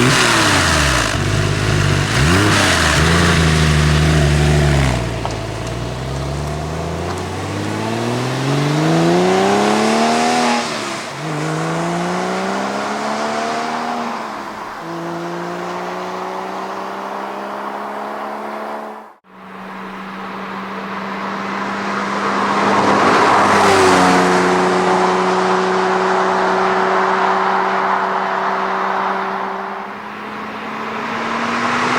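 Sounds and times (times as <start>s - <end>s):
car engine accelerating: 0.0s - 31.9s.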